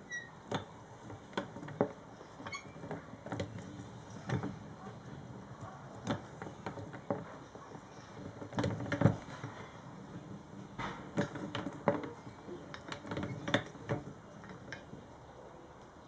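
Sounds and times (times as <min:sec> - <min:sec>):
gears clicking and clunking: 0:00.0 - 0:15.2.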